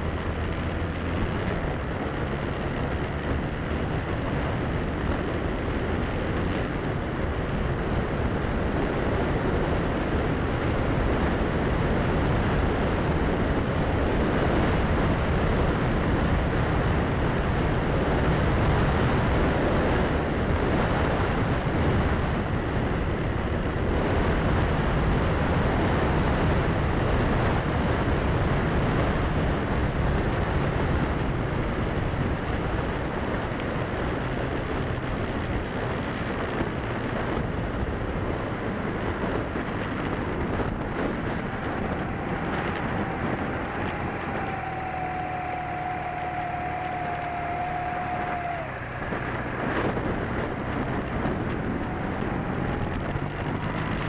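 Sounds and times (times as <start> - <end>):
motorcycle engine cruising: 0.0 - 54.0
wind rush on camera: 0.0 - 54.0.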